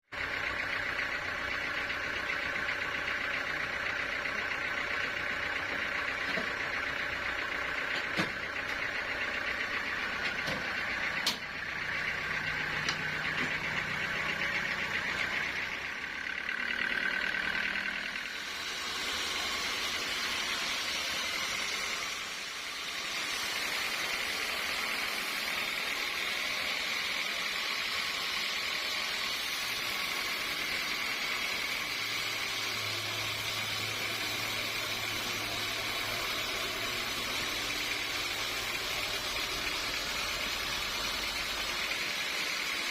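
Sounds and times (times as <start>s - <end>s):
sawmill machinery running: 0.1s - 42.9s.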